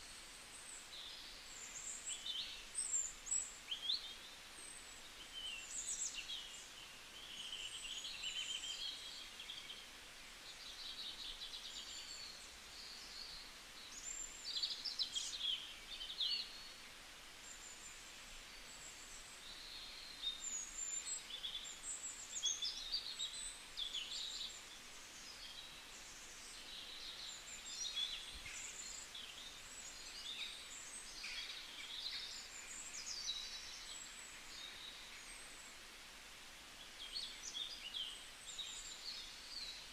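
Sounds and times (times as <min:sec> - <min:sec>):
faint hiss: 0:00.0 - 0:39.9.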